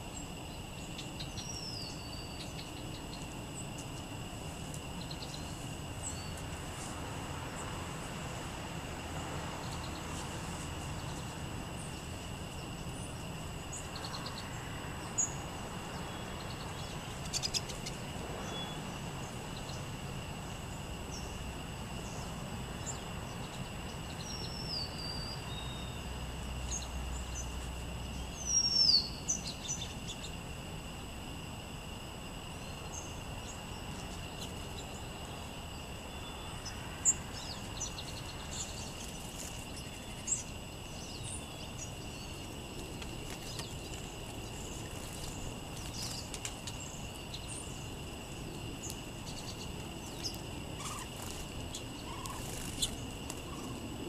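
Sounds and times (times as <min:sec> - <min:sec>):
small songbirds calling: 0:00.0 - 0:54.0
steady hiss: 0:00.0 - 0:54.0.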